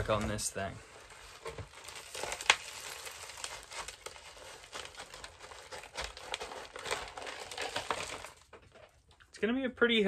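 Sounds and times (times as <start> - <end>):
plastic pot crinkling: 0.0 - 9.4.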